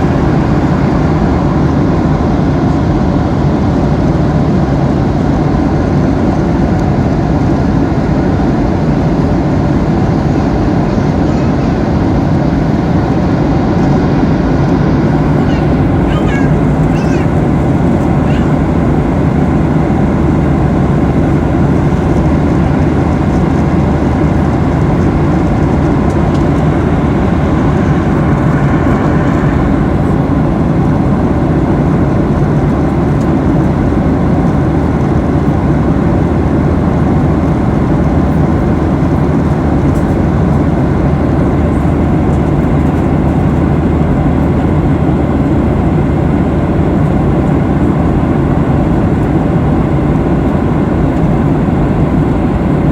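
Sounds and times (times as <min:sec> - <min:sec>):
jet engines droning: 0:00.0 - 0:52.9.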